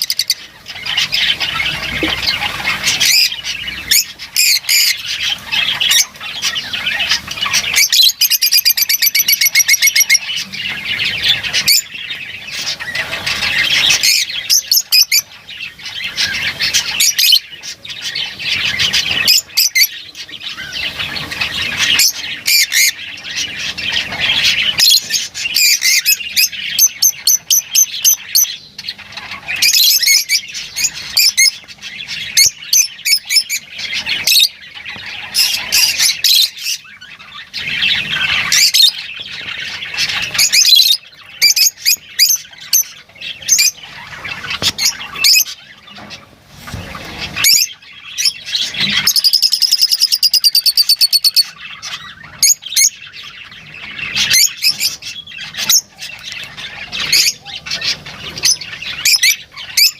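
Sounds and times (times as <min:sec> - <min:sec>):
lovebirds chattering: 0:00.0 - 0:59.9.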